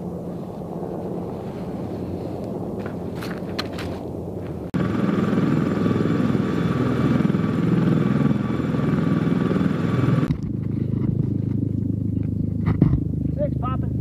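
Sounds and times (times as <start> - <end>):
distant helicopter drone: 0.0 - 14.0
helicopter rotor blades pulsing: 0.0 - 14.0
turbine whine: 0.0 - 14.0.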